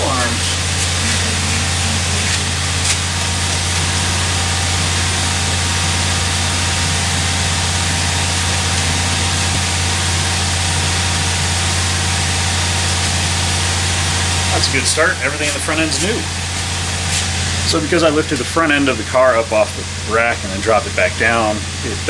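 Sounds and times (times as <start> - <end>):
low mechanical drone: 0.0 - 22.0.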